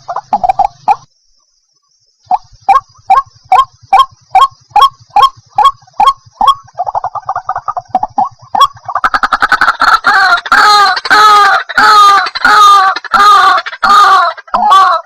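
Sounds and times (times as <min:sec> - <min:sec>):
waterhen sharp calls: 0:02.3 - 0:15.0.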